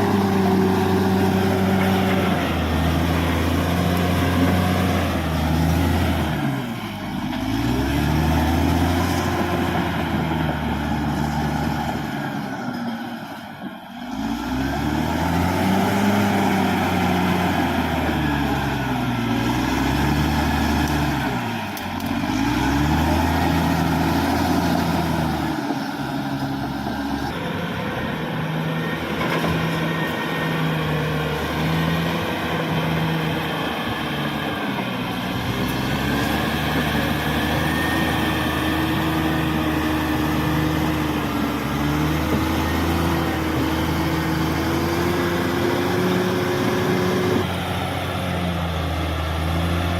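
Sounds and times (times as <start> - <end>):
bulldozer diesel engine revving: 0.0 - 49.9.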